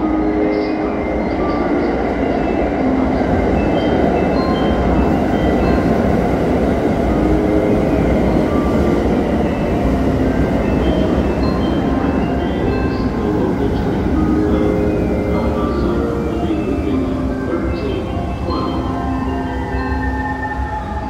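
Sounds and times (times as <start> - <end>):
electric train rumbling: 0.0 - 21.0.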